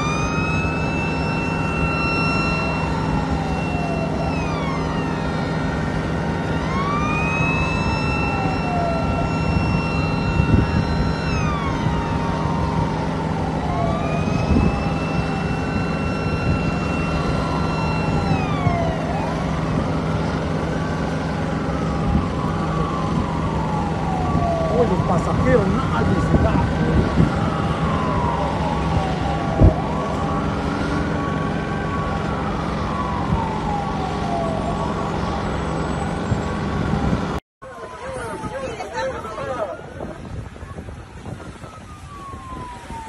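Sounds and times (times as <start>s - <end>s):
fire truck sirens wailing: 0.0s - 43.0s.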